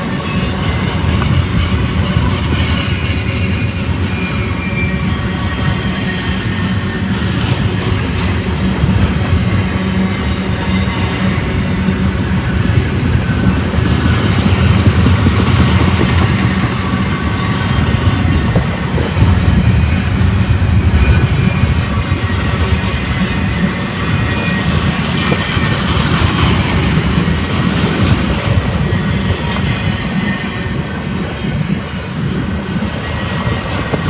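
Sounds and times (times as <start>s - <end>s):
train low rumble: 0.0s - 34.0s
train wheels clicking over rail joints: 0.0s - 34.0s
wind buffeting microphone: 0.0s - 34.0s.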